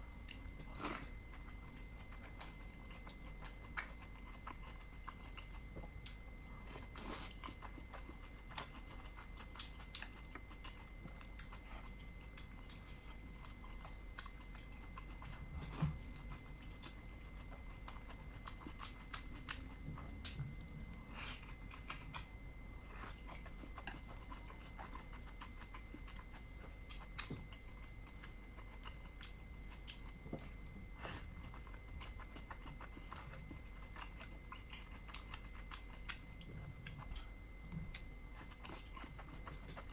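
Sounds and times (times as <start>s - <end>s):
chewing with wet mouth smacks: 0.2s - 39.9s.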